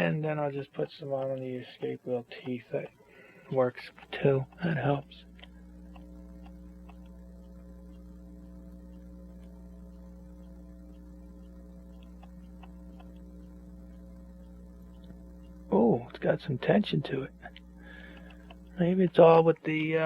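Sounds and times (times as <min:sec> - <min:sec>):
electrical mains hum: 0:00.0 - 0:20.0
faint small clicks: 0:00.8 - 0:15.7, 0:17.4 - 0:20.0.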